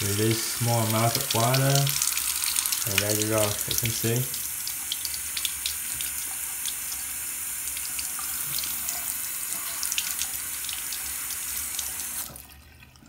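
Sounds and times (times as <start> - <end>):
tap water splashing into sink: 0.0 - 13.0.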